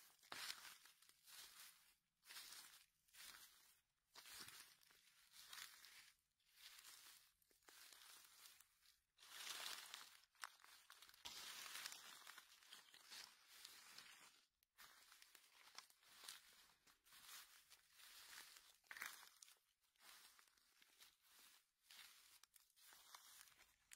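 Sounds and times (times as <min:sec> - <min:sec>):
footsteps through dry leaves: 0:00.0 - 0:23.9.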